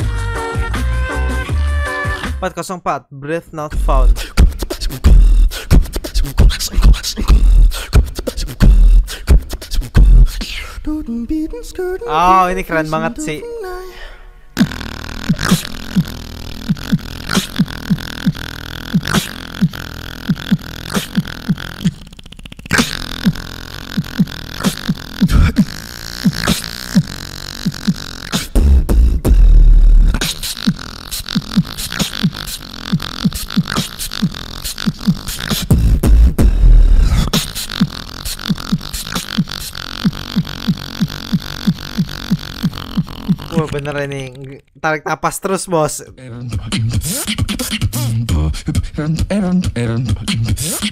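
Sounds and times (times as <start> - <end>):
beatboxing: 0.0 - 2.7, 3.6 - 44.8, 45.4 - 50.9
deep vocal bass: 3.6 - 44.5, 46.0 - 50.9.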